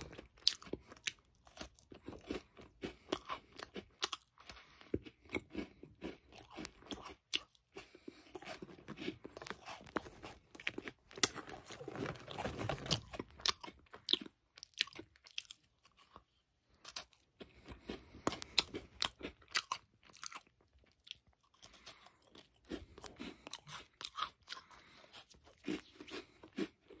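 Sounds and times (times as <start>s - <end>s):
crisp cookie crunches: 0.0s - 27.0s.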